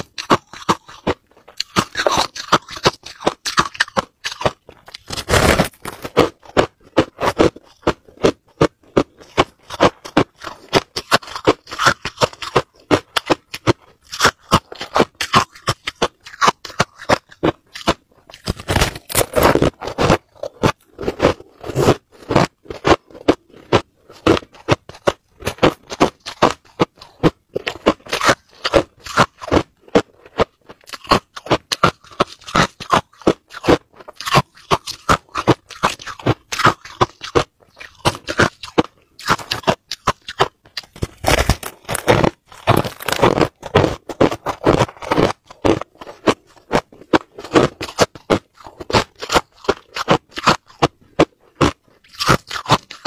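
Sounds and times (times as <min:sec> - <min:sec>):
ice crunching and chewing: 0:00.0 - 0:53.0.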